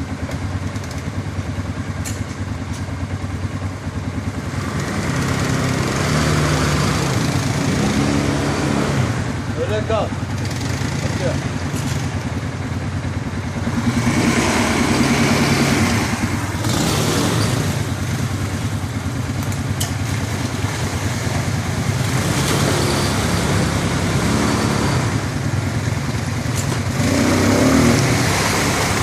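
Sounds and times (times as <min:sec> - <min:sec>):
quad bike engines running: 0:00.0 - 0:29.0.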